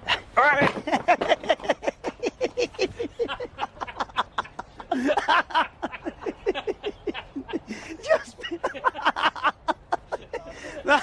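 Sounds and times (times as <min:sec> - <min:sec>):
man laughing heartily: 0:00.6 - 0:11.0.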